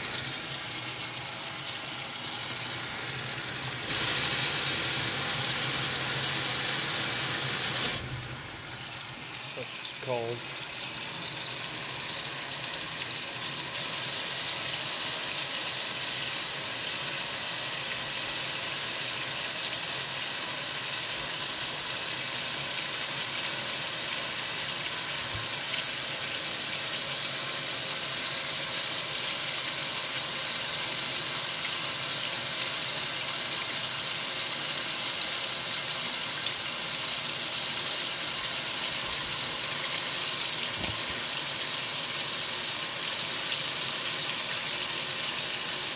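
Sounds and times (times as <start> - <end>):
water running into washing machine: 0.0 - 45.9.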